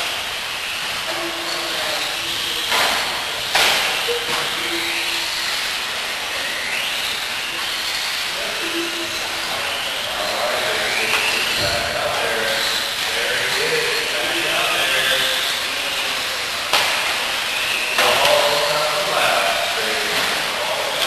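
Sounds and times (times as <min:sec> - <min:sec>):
electric motors whining: 0:00.0 - 0:21.0.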